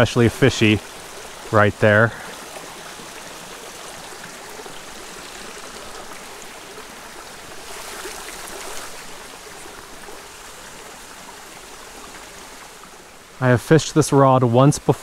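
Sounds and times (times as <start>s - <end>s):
creek water rushing over a weir: 0.0s - 15.0s.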